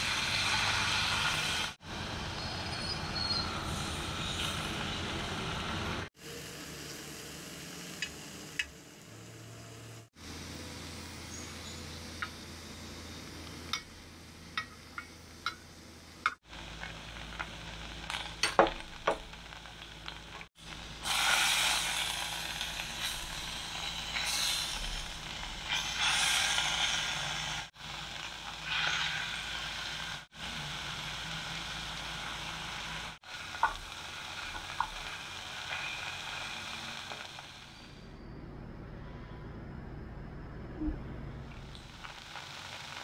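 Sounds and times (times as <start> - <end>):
food sizzling in a pan: 0.0 - 15.6, 16.4 - 38.0, 41.6 - 43.0.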